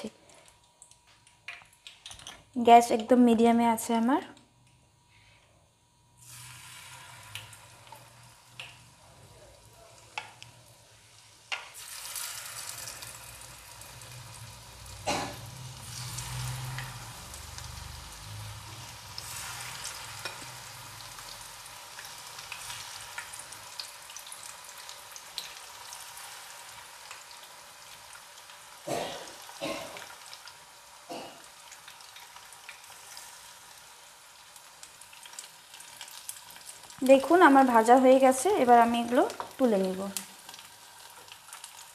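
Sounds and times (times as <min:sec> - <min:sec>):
chicken sizzling in hot oil: 0:06.2 - 0:41.9.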